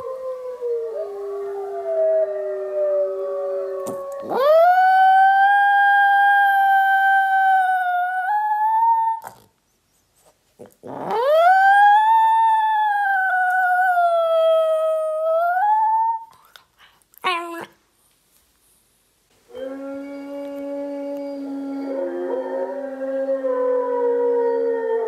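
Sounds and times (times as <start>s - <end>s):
dog howling: 0.0s - 9.4s, 10.9s - 16.3s, 19.6s - 25.0s.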